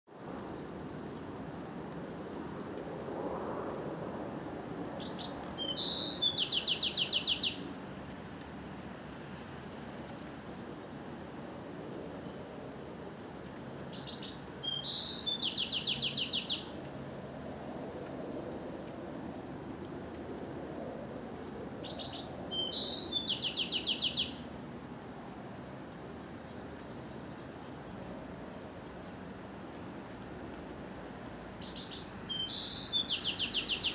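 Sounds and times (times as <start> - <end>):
songbird song with trill: 0.1 - 33.9
birds chirping: 0.2 - 33.9
low outdoor hum: 0.2 - 33.9.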